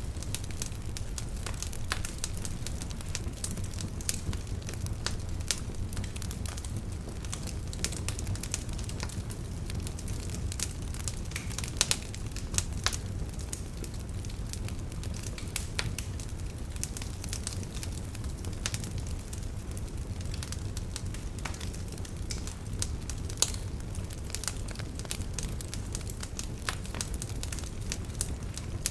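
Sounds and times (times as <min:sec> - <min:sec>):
low fire rumble: 0:00.0 - 0:28.9
wood fire crackling: 0:00.0 - 0:28.9.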